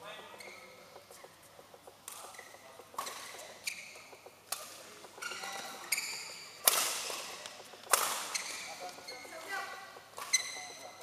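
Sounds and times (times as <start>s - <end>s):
shoes squeaking on court floor: 0.1s - 11.0s
rackets striking shuttlecock: 1.0s - 9.4s, 10.0s - 10.6s.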